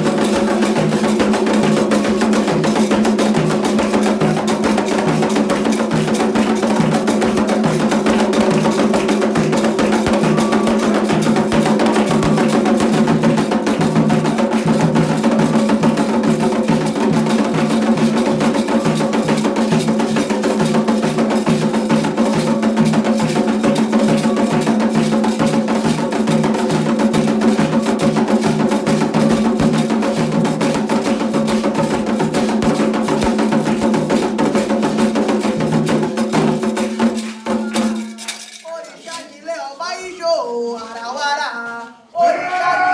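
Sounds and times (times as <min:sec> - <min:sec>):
hand drums beating: 0:00.0 - 0:38.7
struck bell-like percussion: 0:00.0 - 0:38.8.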